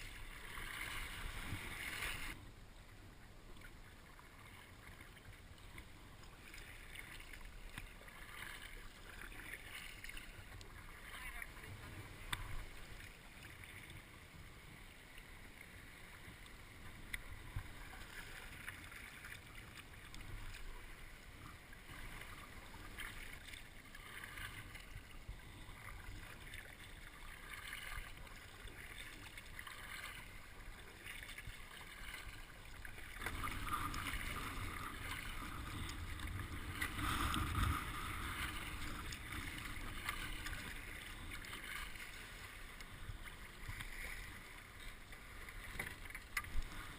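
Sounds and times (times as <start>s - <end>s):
paddle splashing water: 0.0s - 2.4s, 3.4s - 46.9s.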